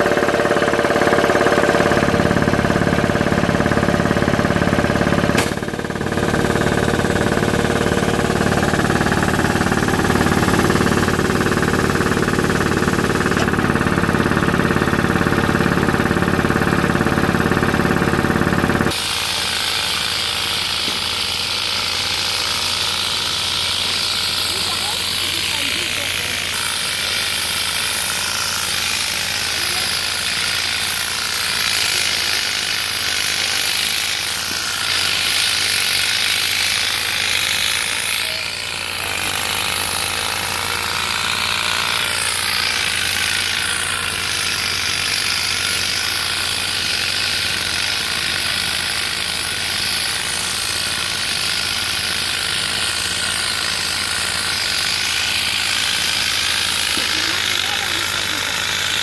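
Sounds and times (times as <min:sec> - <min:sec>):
pneumatic harvester clattering: 0:00.0 - 0:59.0.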